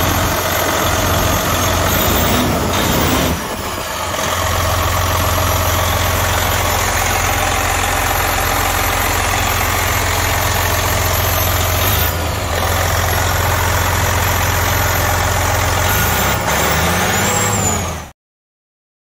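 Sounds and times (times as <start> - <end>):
diesel truck engine idling: 0.0 - 18.1.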